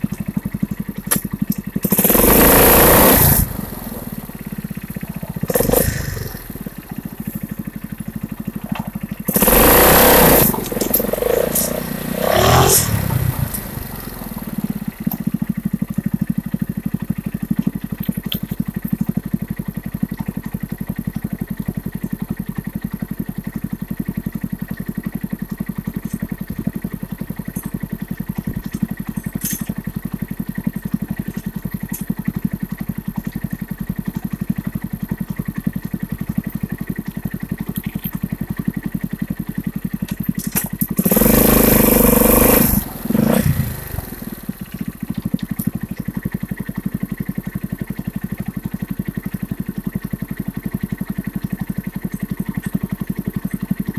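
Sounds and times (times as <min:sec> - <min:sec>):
quad engine idling and revving: 0:00.0 - 0:53.9.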